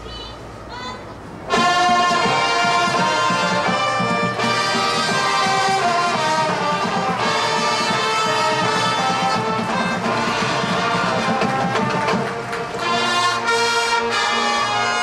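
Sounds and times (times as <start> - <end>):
marching band playing: 1.3 - 15.0.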